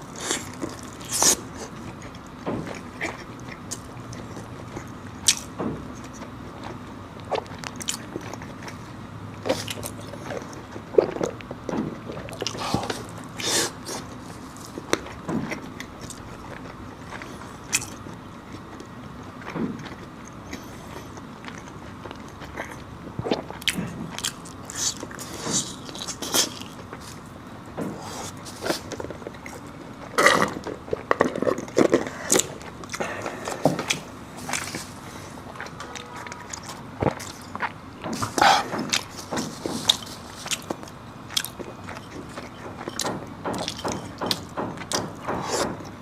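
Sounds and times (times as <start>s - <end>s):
person biting and chewing food: 0.0s - 46.0s.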